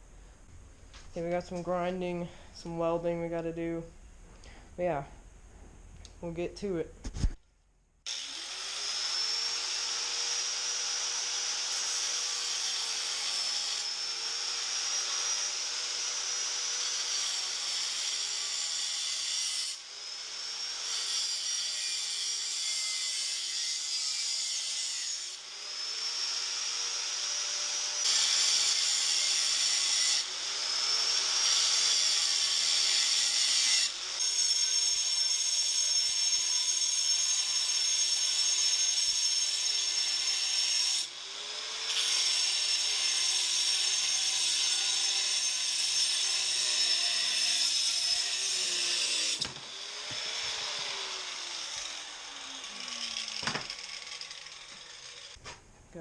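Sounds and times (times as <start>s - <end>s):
power tool cutting steel: 8.1s - 55.4s.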